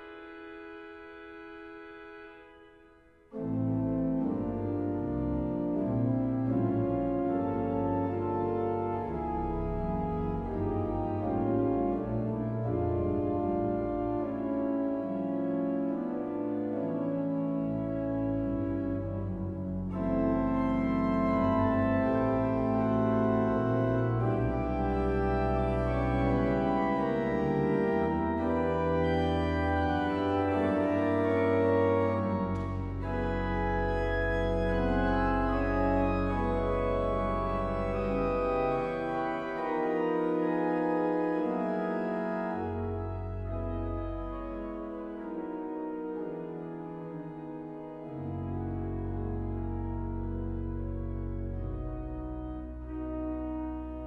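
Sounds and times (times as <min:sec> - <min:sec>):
pipe organ chords: 0:00.0 - 0:54.0.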